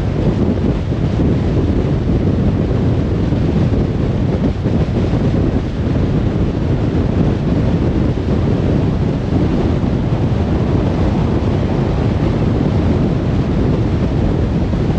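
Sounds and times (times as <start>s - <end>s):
tyre and wind noise: 0.0s - 14.9s.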